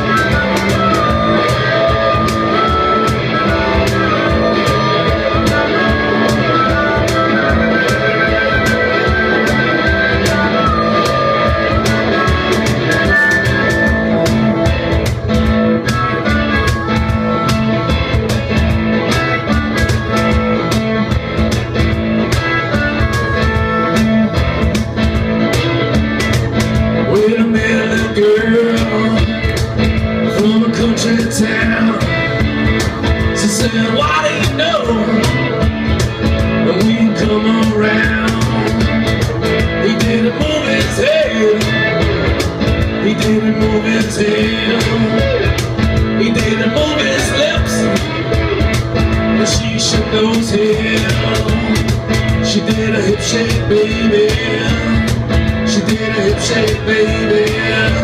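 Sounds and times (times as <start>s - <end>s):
blues-rock band playing: 0.0s - 58.0s.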